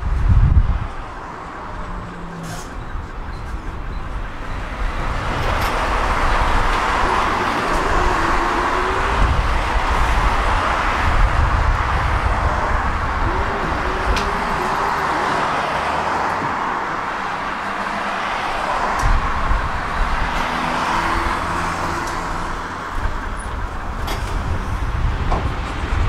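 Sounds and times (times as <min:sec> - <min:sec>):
road traffic passing: 0:00.0 - 0:26.0
tram wheels rolling on rails: 0:00.0 - 0:26.0.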